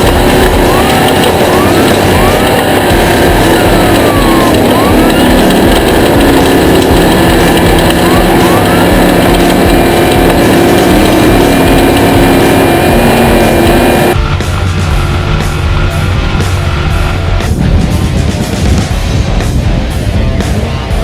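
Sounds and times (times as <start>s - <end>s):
racing vehicle engines: 0.0s - 21.0s.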